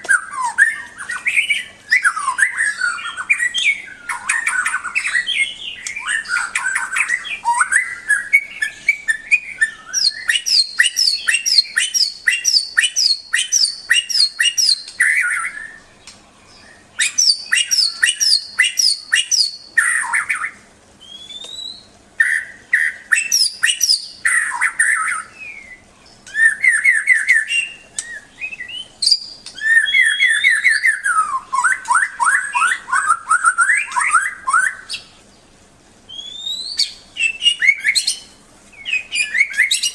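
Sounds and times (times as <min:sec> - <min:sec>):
songbird singing trills and whistles: 0:00.0 - 0:35.5, 0:36.1 - 0:39.9.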